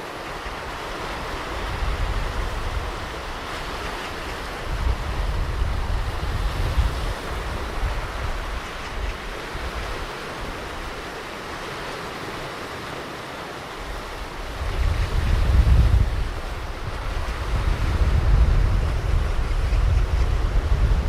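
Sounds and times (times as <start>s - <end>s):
ocean surf on a beach: 0.0s - 21.0s.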